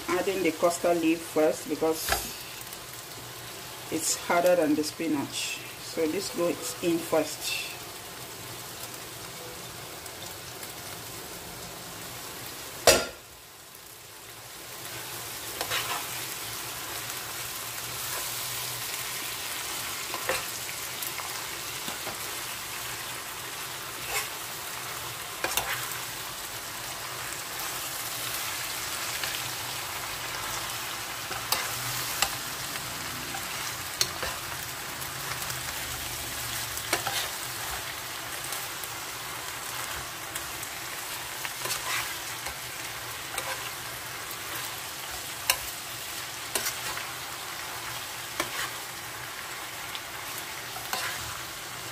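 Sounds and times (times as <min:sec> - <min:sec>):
greens sizzling in a pan: 0:00.0 - 0:51.9.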